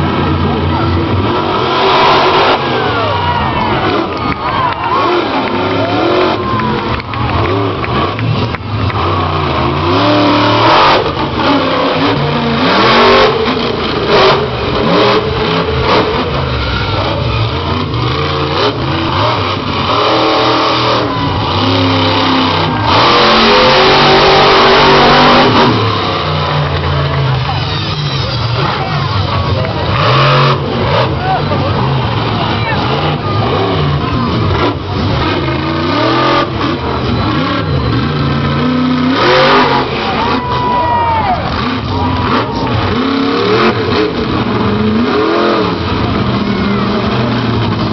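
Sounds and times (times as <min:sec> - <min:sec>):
monster truck engine revving: 0:00.0 - 0:47.9.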